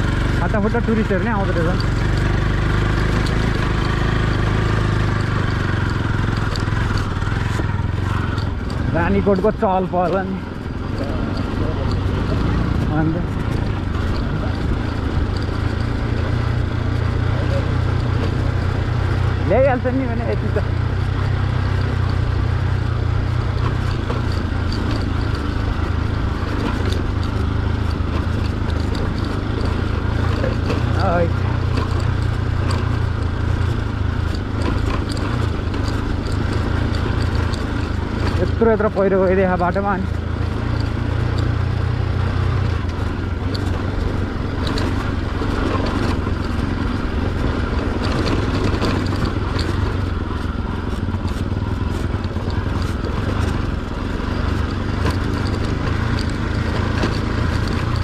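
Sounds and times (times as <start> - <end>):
faint ticks and rattles: 0.0 - 58.0
motorcycle engine running: 0.0 - 58.0.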